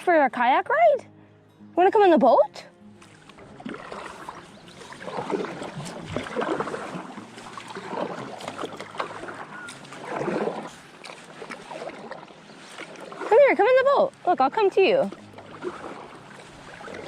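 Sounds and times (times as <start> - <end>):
water splashing around kayak: 3.0 - 17.0.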